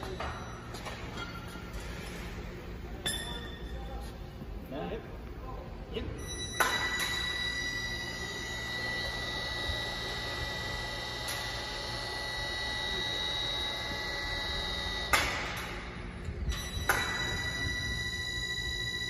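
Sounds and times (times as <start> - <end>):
constant high whine: 0.0 - 19.0
workshop background noise: 0.0 - 19.0.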